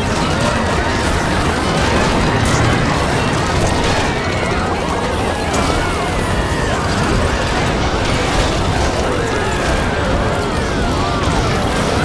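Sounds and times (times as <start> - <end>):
overlapping cartoon soundtracks: 0.0 - 12.0.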